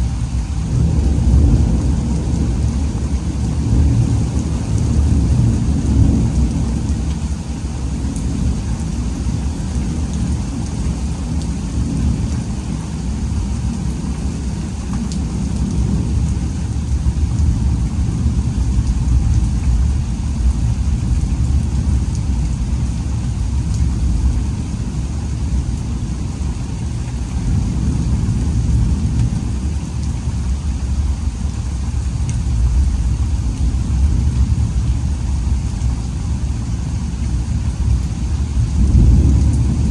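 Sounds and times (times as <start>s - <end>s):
low thunder rumble: 0.0s - 39.9s
steady rain: 0.0s - 39.9s.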